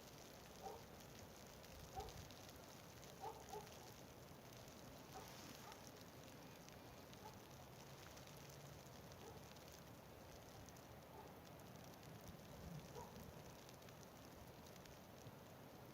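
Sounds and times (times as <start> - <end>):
faint outdoor hiss: 0.0 - 15.9.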